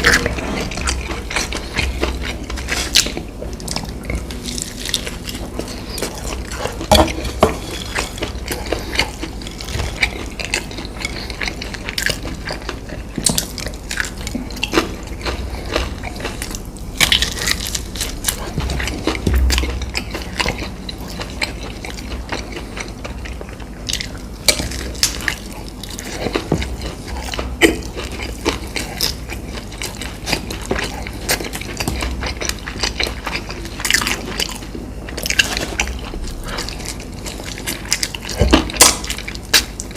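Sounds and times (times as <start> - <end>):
close eating and chewing: 0.0 - 39.9.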